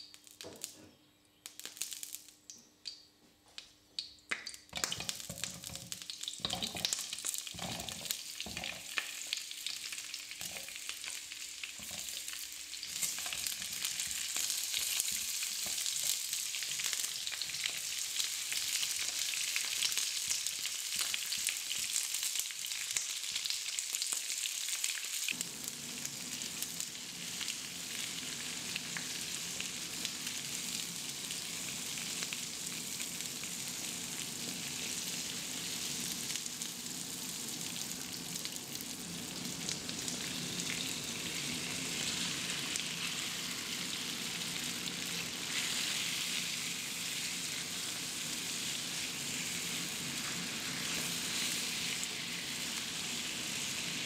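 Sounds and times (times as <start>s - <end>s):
onions sizzling in oil: 1.4s - 2.4s, 4.7s - 54.0s.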